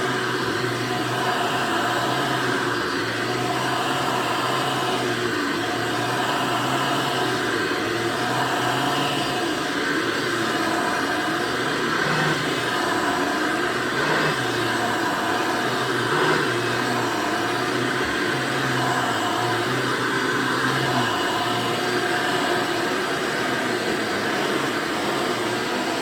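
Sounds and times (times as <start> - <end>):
upright vacuum cleaner running: 0.0 - 26.0.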